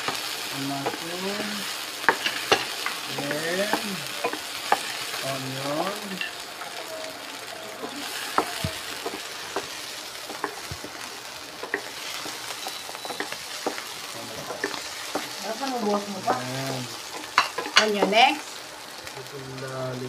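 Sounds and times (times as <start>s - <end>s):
wooden spoon scraping a pan: 0.0s - 6.4s, 7.7s - 18.4s
vegetables sizzling in oil: 0.0s - 20.0s.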